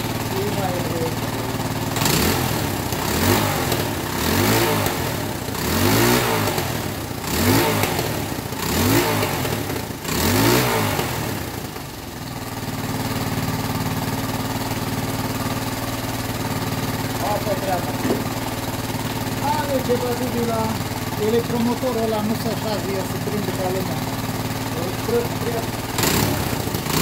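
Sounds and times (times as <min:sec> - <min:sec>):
atv engine revving and idling: 0:00.0 - 0:27.0.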